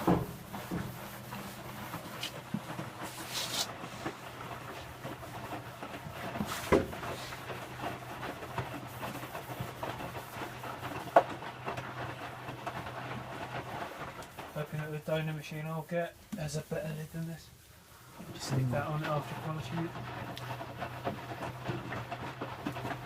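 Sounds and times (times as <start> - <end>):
washing machine drum humming: 0.0 - 16.8, 18.2 - 23.0.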